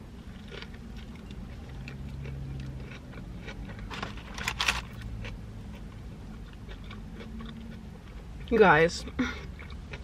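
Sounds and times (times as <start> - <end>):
person chewing a burger: 0.1 - 8.5, 9.1 - 10.0.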